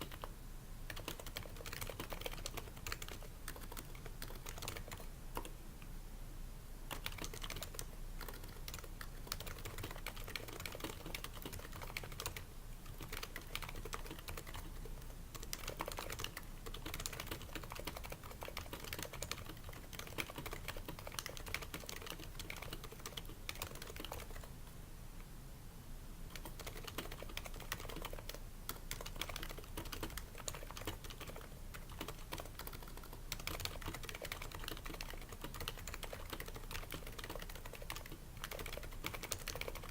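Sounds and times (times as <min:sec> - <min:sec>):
keyboard typing: 0:00.0 - 0:00.3, 0:00.9 - 0:05.6, 0:06.9 - 0:24.5, 0:26.3 - 0:39.9.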